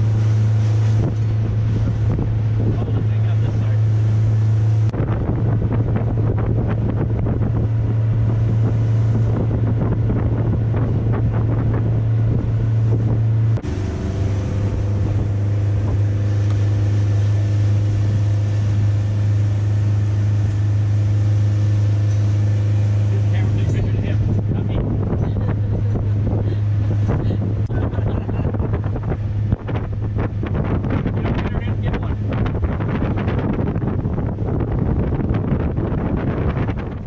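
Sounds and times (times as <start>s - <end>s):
outboard motor droning: 0.0s - 37.0s
water rushing past hull: 0.0s - 37.0s
wind buffeting microphone: 0.0s - 37.0s.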